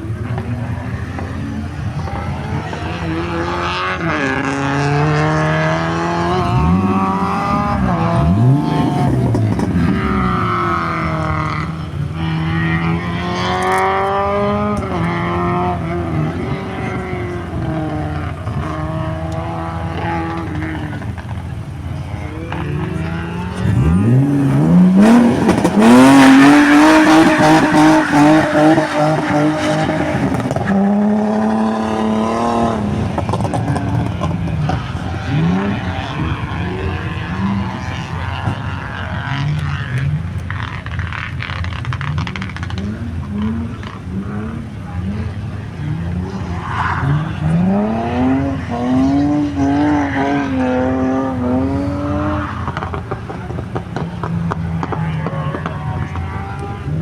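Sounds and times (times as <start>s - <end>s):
car accelerating through gear changes: 0.0s - 57.0s
rally car engine revving: 0.0s - 57.0s.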